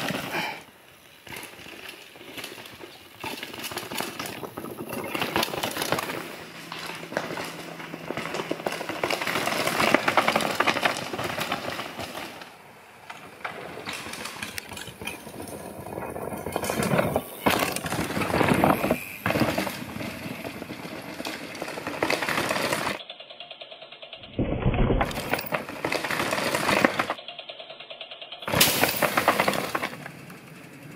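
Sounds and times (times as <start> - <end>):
bike tyres crunching on rocks: 0.0 - 23.0, 25.0 - 27.2
bike chain and frame rattling: 1.2 - 30.9.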